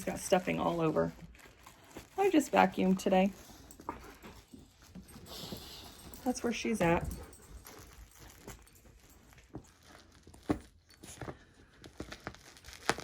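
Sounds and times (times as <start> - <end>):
dog chewing plush toy: 0.0 - 13.0.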